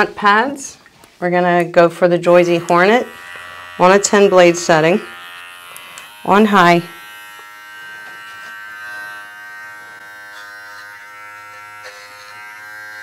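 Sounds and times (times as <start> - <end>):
electric dog clipper buzzing: 2.2 - 13.0.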